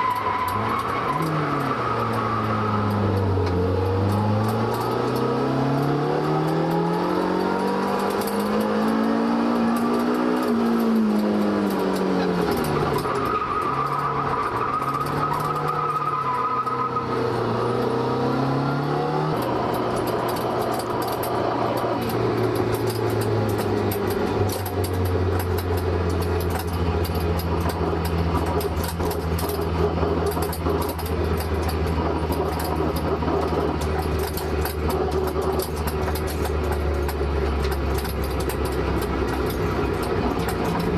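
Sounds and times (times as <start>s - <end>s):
car engine revving: 0.0s - 40.9s
engine droning steadily: 0.0s - 40.9s.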